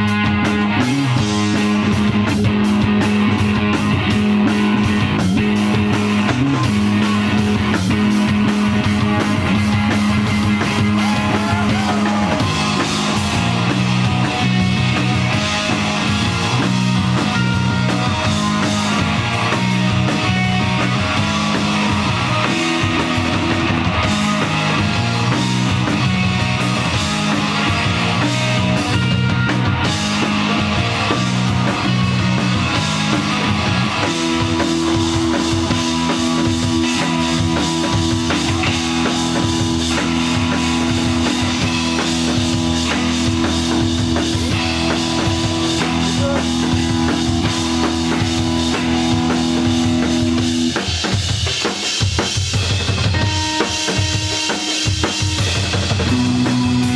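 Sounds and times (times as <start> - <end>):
drum kit: 0.0 - 56.9
electric bass riff: 0.0 - 56.9
electric guitar: 0.0 - 56.9.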